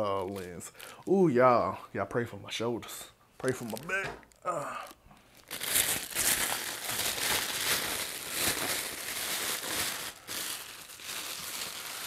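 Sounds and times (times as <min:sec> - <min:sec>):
plastic packaging crinkling: 0:00.0 - 0:01.2, 0:03.4 - 0:12.0.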